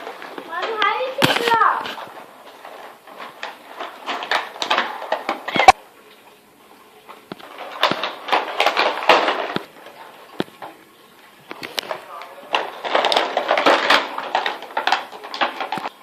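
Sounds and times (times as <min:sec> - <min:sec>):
toy packaging rustling and clicking: 0:00.0 - 0:05.8, 0:07.1 - 0:16.0.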